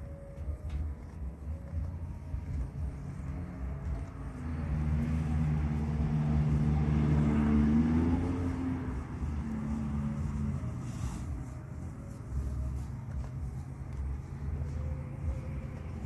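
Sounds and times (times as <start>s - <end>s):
passing vehicle engine drone: 0.0s - 16.0s.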